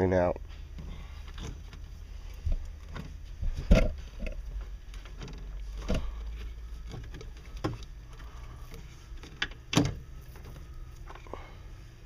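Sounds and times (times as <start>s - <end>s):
low hum: 0.2s - 12.0s.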